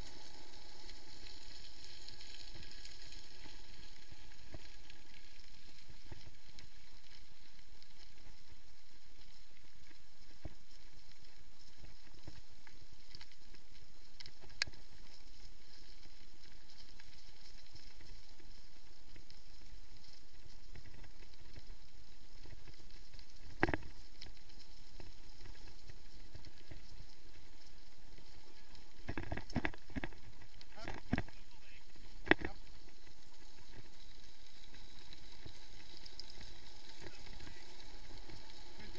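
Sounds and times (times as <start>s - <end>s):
bike tyres rumbling on gravel: 0.0s - 38.9s.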